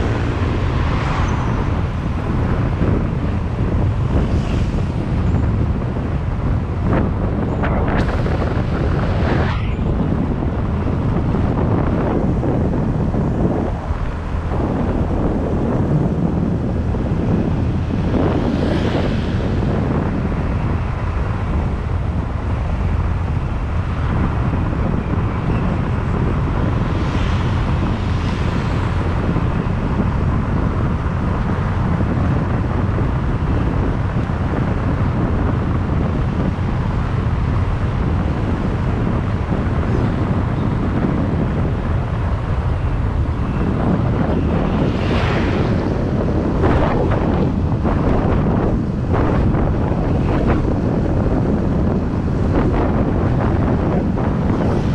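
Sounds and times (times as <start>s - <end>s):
road noise: 0.0s - 54.9s
wind buffeting microphone: 0.0s - 54.9s.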